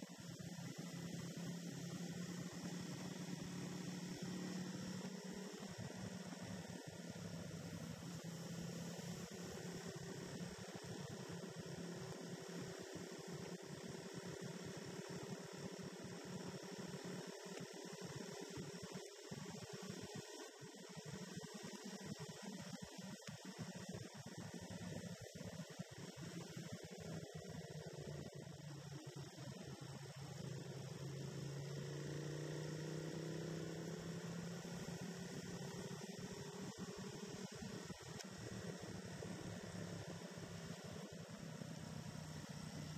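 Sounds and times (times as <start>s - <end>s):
motorcycle engine and road noise: 0.0s - 42.9s.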